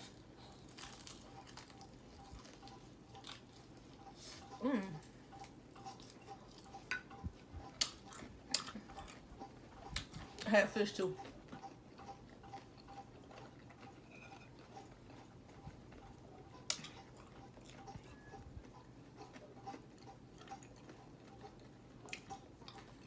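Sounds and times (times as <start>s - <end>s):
chewing and mouth clicks: 0.0s - 10.5s, 11.2s - 23.0s
soft regular ticking: 0.7s - 23.0s.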